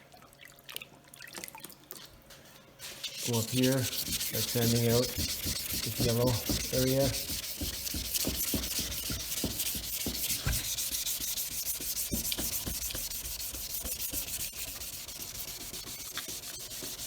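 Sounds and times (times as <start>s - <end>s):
wet sandpaper rubbing on plastic: 2.8s - 17.0s.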